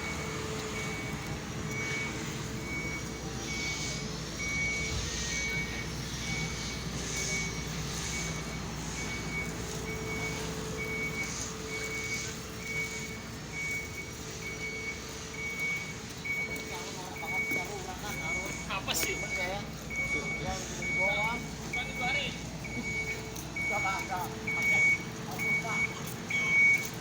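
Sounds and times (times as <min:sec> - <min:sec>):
engine hum: 0:00.0 - 0:27.0
vehicle reversing alarm beeping: 0:00.0 - 0:27.0.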